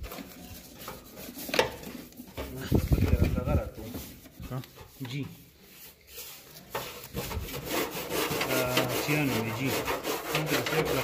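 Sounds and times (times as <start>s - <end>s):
hand brush scrubbing plastic: 0.0s - 11.0s.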